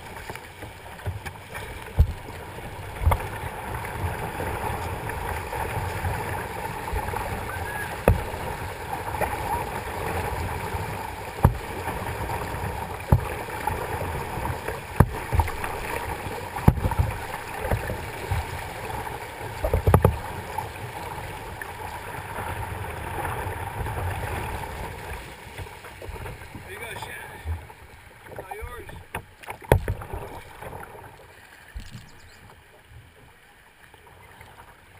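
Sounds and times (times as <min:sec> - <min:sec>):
kayak slaps and knocks: 0:00.0 - 0:33.4
river water rushing: 0:00.0 - 0:34.9.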